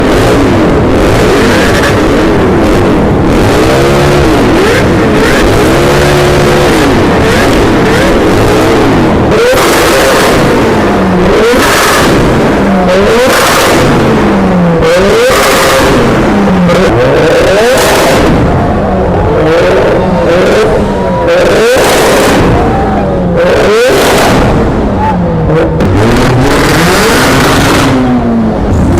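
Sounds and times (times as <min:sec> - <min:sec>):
car and motorcycle engines revving: 0:00.0 - 0:28.9.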